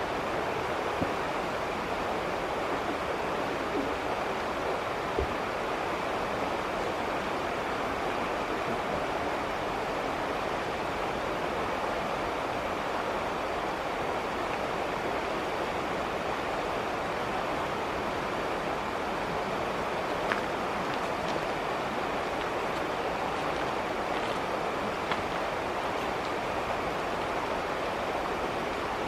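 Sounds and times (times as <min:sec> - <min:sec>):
flowing river water: 0:00.0 - 0:29.0.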